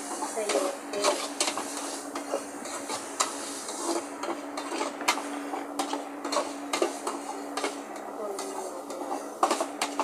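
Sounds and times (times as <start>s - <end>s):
steady low hum: 0.0s - 10.0s
utensils scraping cookware: 0.0s - 10.0s.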